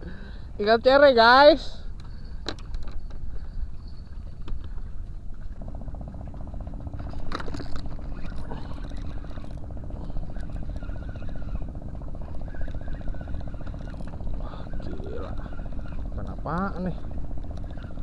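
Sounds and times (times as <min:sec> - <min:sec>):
small engine throbbing: 0:00.0 - 0:18.0.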